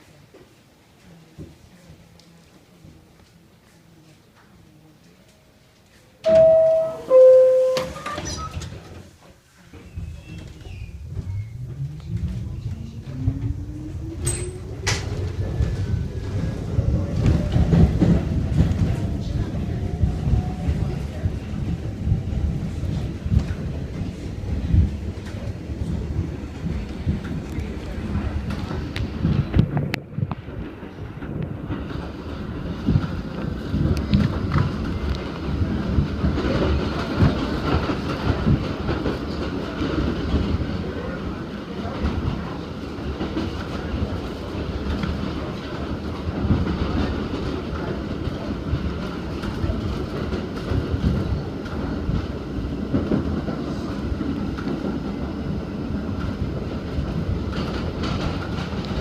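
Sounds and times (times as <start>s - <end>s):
subway wheels rumbling on rails: 0.0s - 59.0s.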